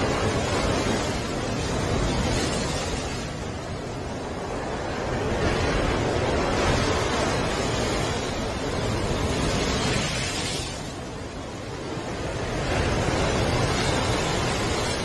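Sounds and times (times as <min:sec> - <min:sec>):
surf breaking on rocky shore: 0:00.0 - 0:15.0.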